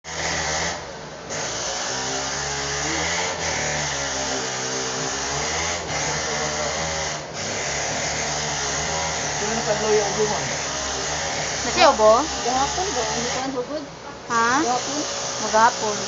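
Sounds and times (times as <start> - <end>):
motor-driven hiss: 0.1 - 16.0.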